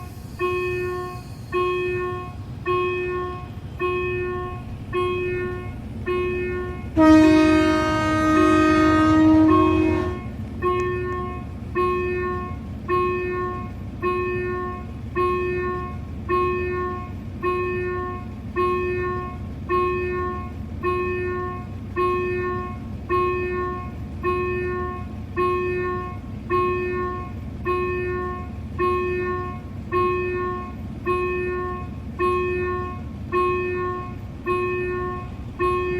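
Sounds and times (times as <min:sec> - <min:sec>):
level-crossing warning bell ringing: 0:00.0 - 0:35.9.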